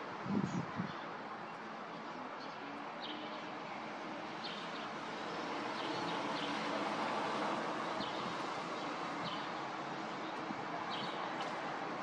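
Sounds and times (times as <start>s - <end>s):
street traffic rush: 0.0s - 12.0s.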